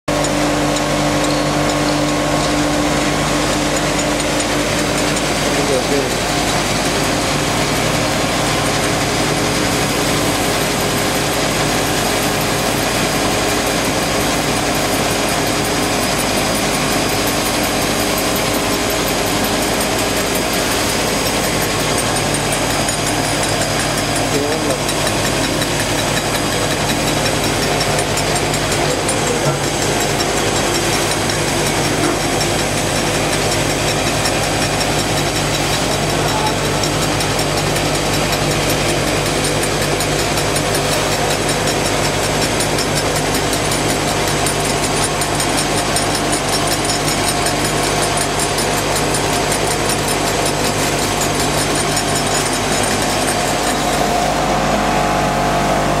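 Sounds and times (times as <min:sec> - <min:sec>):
machine rollers humming and whirring: 0:00.1 - 0:56.0.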